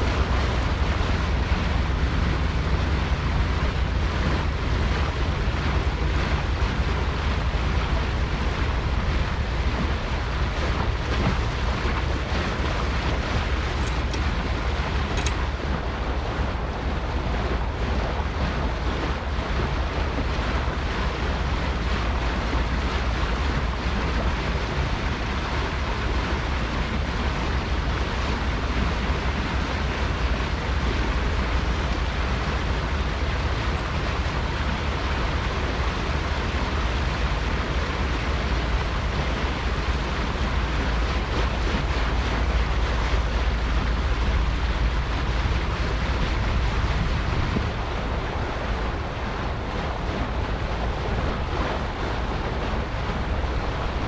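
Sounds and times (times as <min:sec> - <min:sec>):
water rushing past boat: 0:00.0 - 0:54.0
wind rumbling on microphone: 0:00.0 - 0:54.0.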